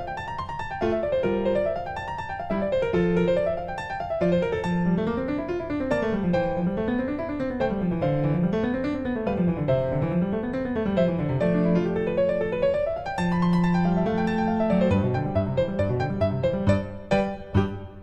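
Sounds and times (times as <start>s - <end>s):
piano arpeggios: 0.0s - 18.0s.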